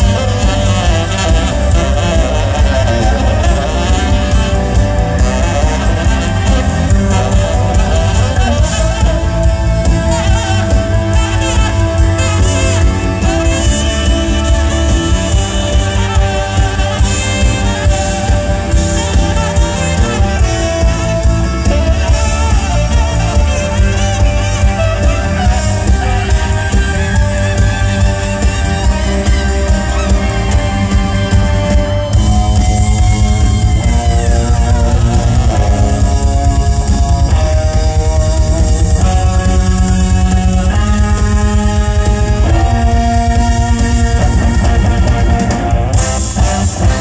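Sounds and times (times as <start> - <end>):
jazz-rock band playing: 0.0 - 47.0
tenor saxophone melody: 0.0 - 47.0.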